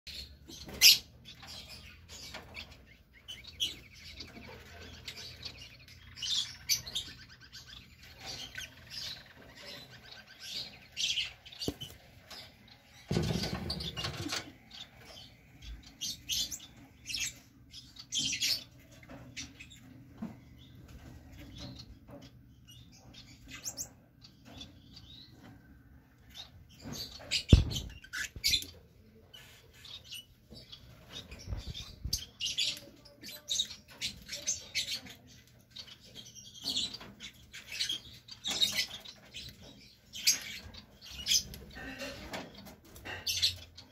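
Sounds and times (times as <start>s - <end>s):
lovebirds chirping: 0.1s - 43.9s.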